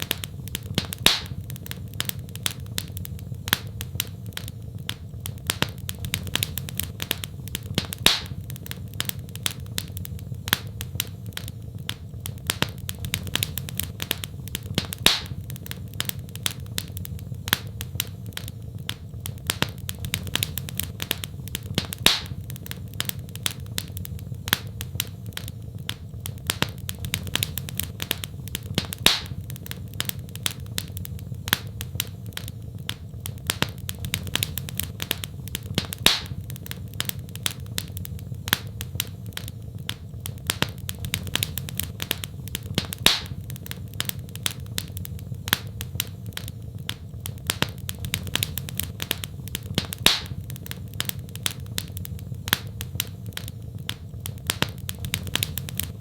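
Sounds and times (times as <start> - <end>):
loud fire pop: 0.0 - 56.0
wood fire crackling: 0.0 - 56.0.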